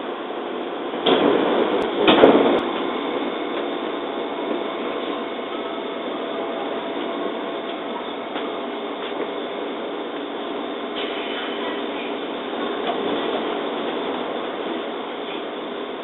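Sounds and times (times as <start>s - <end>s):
electric train idle hum: 0.0s - 16.0s.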